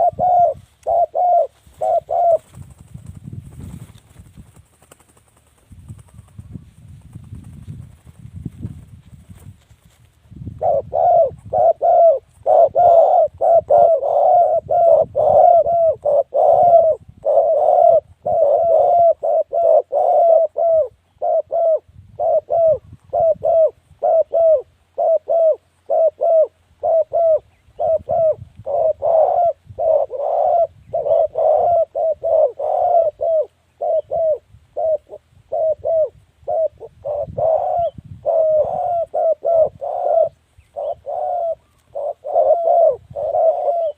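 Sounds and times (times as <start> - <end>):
dove cooing: 0.0 - 2.9, 10.6 - 43.9.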